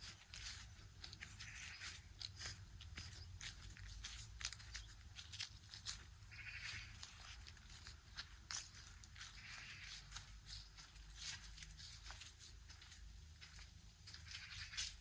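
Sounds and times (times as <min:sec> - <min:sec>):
soft footsteps walking: 0:00.0 - 0:15.0.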